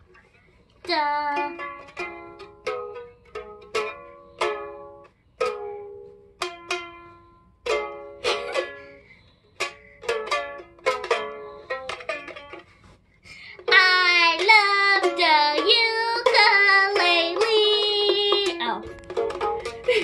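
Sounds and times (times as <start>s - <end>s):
toy ukulele strumming: 0.0s - 12.8s, 13.6s - 20.0s.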